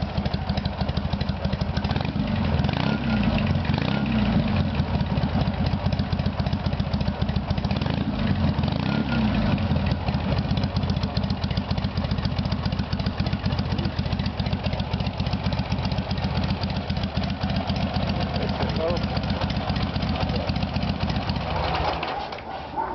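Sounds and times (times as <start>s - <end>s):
motorcycle engine idling: 0.0s - 22.4s.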